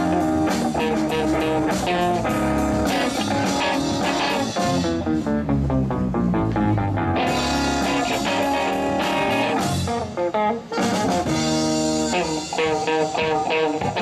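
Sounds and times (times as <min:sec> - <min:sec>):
bass guitar: 0:00.0 - 0:14.0
drums: 0:00.0 - 0:14.0
electric guitar: 0:00.0 - 0:14.0.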